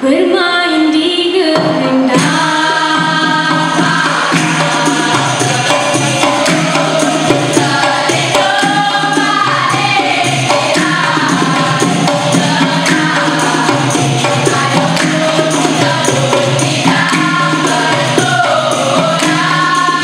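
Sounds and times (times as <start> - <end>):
percussion beat: 1.6 - 20.0
female chorus singing: 1.9 - 20.0.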